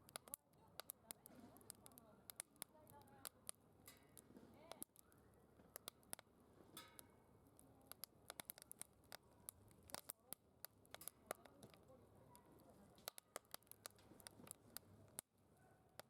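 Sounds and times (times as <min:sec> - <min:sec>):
fire popping and snapping: 0:00.0 - 0:16.0
wood fire crackling: 0:00.0 - 0:16.0.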